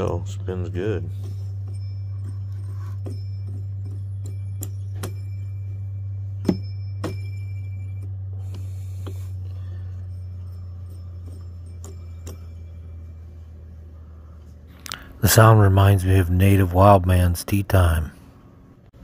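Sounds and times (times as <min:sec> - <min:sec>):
low metallic hum with ring: 0:00.0 - 0:19.0.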